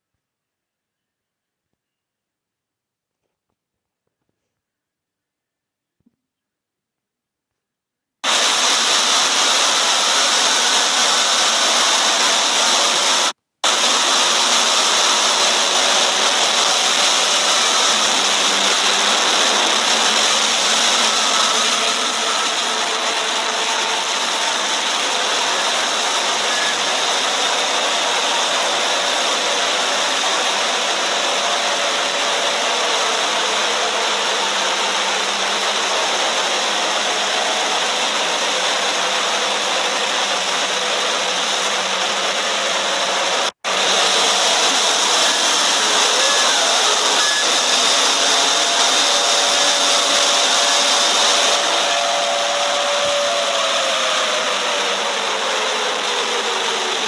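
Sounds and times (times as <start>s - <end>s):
loud steady noise: 8.2s - 57.0s.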